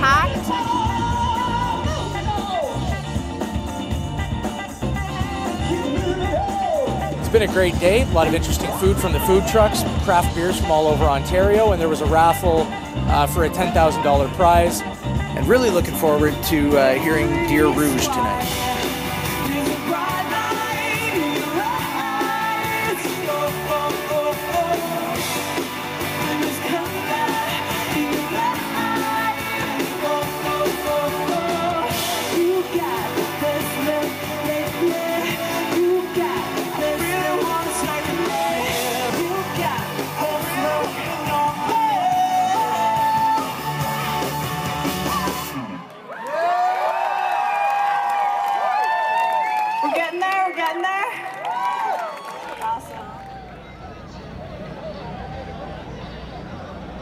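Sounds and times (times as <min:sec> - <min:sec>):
pop-rock song with singer: 0:00.0 - 0:45.8.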